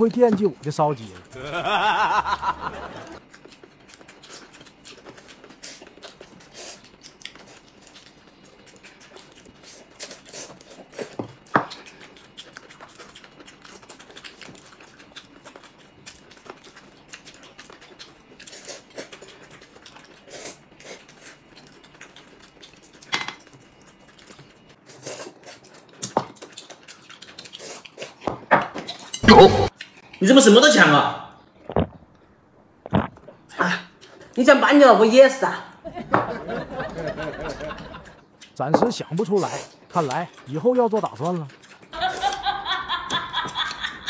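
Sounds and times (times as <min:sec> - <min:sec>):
quiet chewing: 0:03.0 - 0:28.3, 0:28.9 - 0:30.2, 0:31.4 - 0:34.4, 0:37.2 - 0:44.0.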